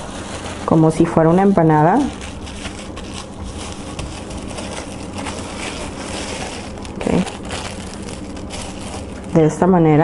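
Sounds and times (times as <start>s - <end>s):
plastic sheet crinkling: 0.0s - 10.0s.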